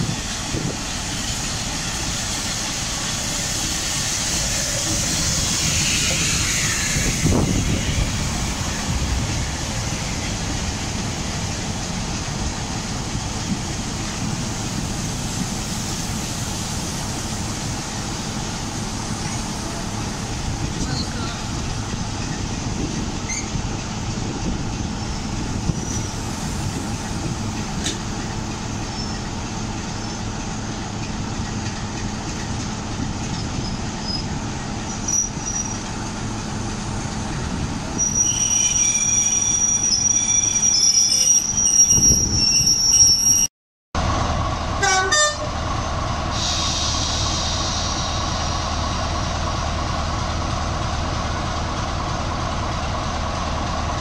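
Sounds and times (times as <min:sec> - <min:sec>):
diesel locomotive engine idling: 0:00.0 - 0:38.0, 0:44.0 - 0:54.0
train low rumble: 0:00.0 - 0:43.4, 0:44.0 - 0:54.0.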